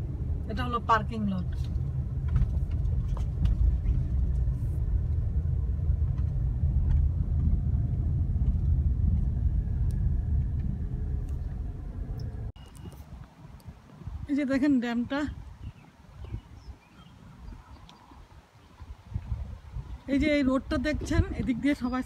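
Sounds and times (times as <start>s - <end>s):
car rolling low rumble: 0.0s - 22.0s.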